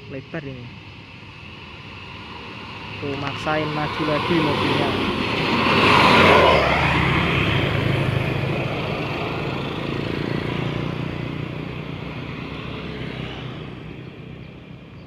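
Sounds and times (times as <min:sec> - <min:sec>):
bus diesel engine running: 0:00.0 - 0:12.6.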